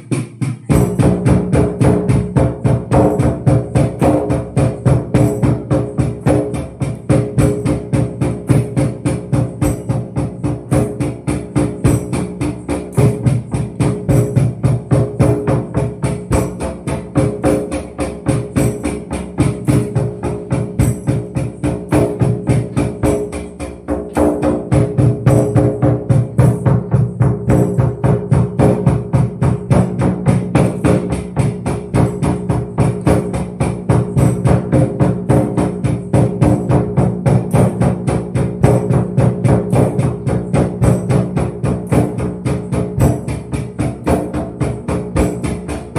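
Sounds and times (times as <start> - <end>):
fast hand percussion with jingles: 0.0 - 45.9.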